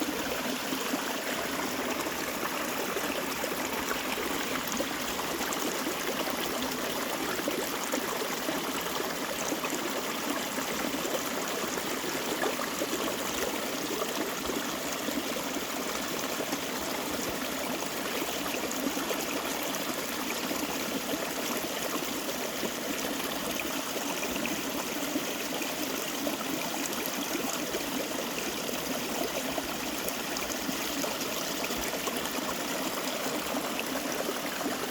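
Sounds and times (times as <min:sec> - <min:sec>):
stream babbling over rocks: 0:00.0 - 0:34.9.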